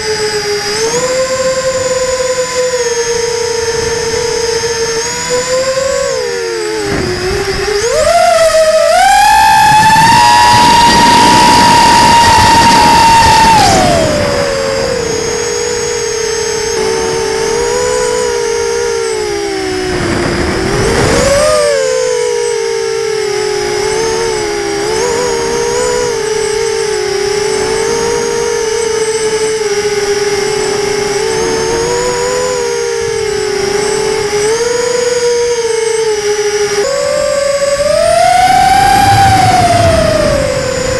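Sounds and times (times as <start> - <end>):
quadcopter motors whining: 0.0 - 40.9
wind noise: 0.0 - 40.9.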